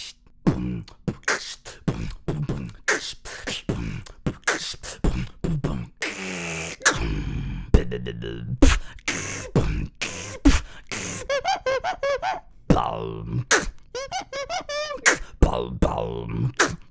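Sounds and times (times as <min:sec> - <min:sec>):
beatboxing: 0:00.0 - 0:16.9.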